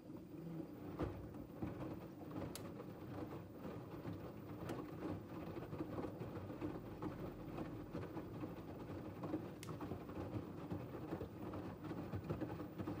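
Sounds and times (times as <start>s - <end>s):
washing machine sloshing laundry: 0.0s - 13.0s.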